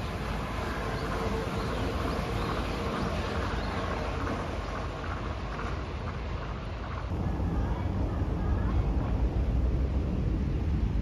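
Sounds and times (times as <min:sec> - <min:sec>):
distant traffic: 0:00.0 - 0:11.0
wind rumble on microphone: 0:00.0 - 0:11.0.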